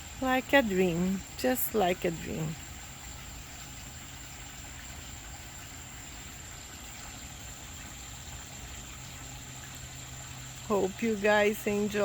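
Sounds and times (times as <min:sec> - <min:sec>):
crickets trilling: 0:00.0 - 0:12.0
running water rushing: 0:00.0 - 0:12.0.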